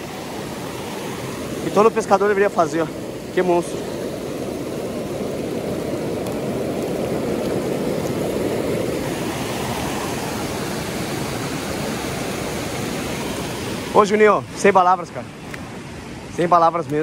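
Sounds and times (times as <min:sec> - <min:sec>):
river rapids rushing: 0:00.0 - 0:16.8.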